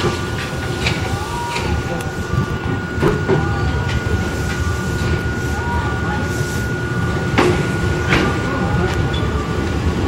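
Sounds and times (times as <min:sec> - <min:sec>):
thin steady high tone: 0:00.0 - 0:10.0
train running rumble: 0:00.0 - 0:10.0.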